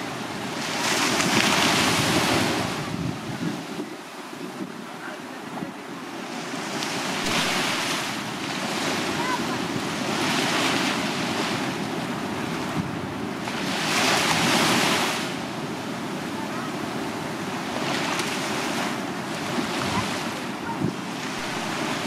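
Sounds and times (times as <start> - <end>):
small waves breaking on beach: 0.0 - 22.0.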